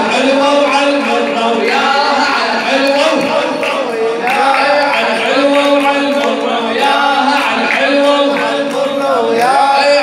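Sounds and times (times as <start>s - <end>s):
man singing devotional chant: 0.0s - 10.0s.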